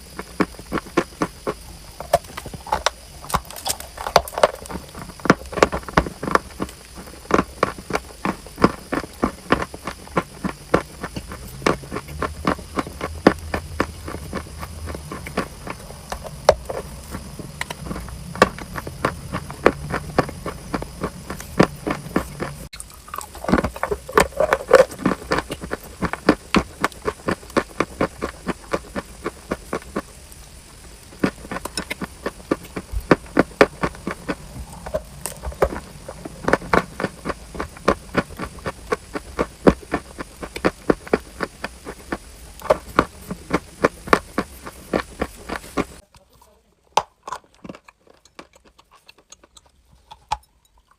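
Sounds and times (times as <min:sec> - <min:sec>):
chewing crunchy chalk: 0:00.0 - 0:46.0, 0:47.2 - 0:50.9.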